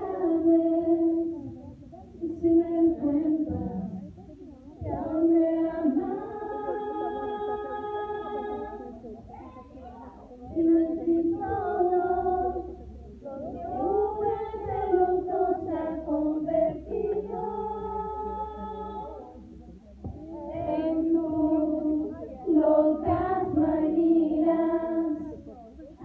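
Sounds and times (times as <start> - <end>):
woman singing into microphone: 0.0 - 9.0, 10.4 - 19.3, 20.0 - 26.0.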